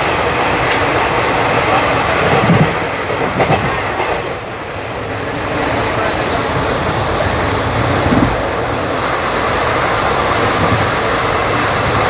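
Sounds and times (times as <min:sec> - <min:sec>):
passing train: 0:00.0 - 0:12.0
train wheels on rail: 0:00.0 - 0:12.0.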